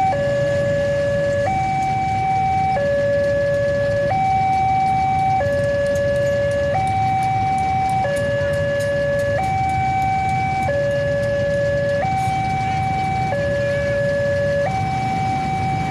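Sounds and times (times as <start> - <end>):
road traffic rumble: 0.0 - 15.9
two-tone level-crossing alarm: 0.0 - 15.9.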